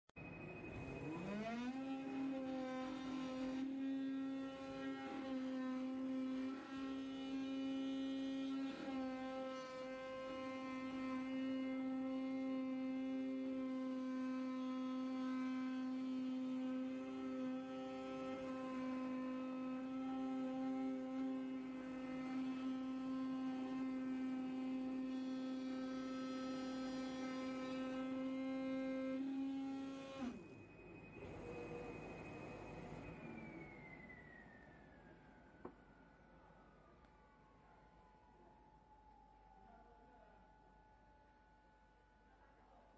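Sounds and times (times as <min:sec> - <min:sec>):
cutting machine hum: 0:00.7 - 0:35.8.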